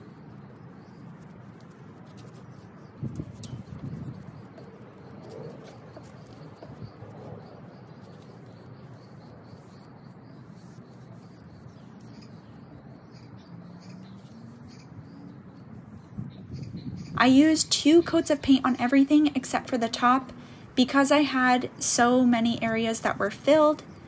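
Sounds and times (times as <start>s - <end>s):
paintbrush stroking paint: 0.0s - 14.7s, 17.2s - 24.0s
birds calling: 0.0s - 24.0s.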